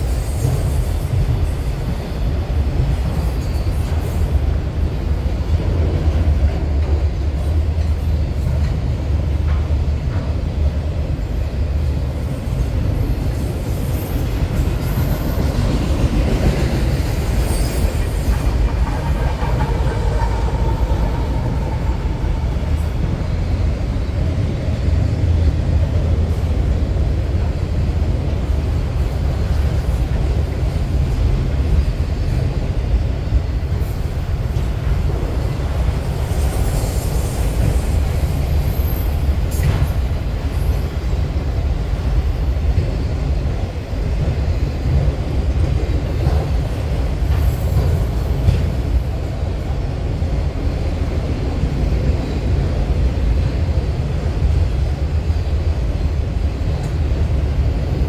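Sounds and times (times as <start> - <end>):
rail joint clicks: 0.0 - 58.0
train wheels rumbling on rails: 0.0 - 58.0.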